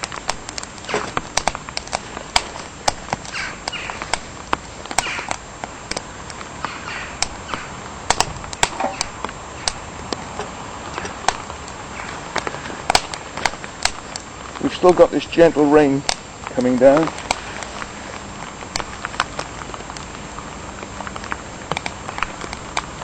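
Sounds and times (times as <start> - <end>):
wood fire crackling in stove: 0.0 - 23.0.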